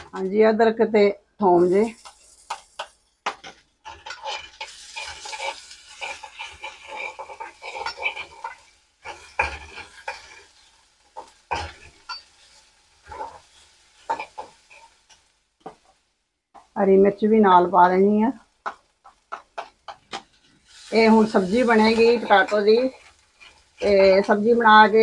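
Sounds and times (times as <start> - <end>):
onion frying in oil: 0.0 - 25.0
steel spoon scraping pan: 1.6 - 15.3, 18.6 - 25.0.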